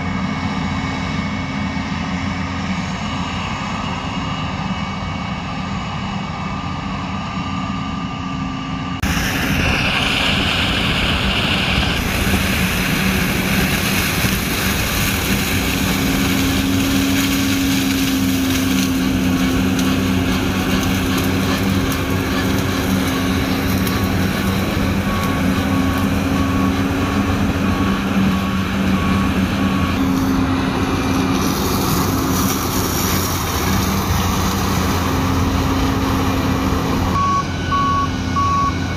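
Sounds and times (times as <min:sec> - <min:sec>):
combine harvester engine drone: 0:00.0 - 0:38.9
threshing machinery noise: 0:00.0 - 0:38.9.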